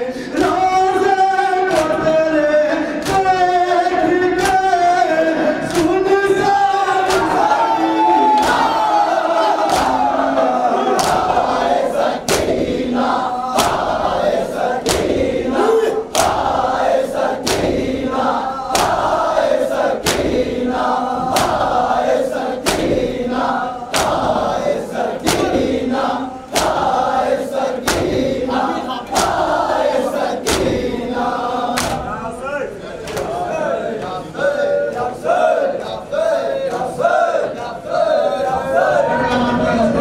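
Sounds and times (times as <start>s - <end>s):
men chanting together: 0.0s - 40.0s
hands slapping chests in rhythm: 0.2s - 32.3s, 33.0s - 38.6s.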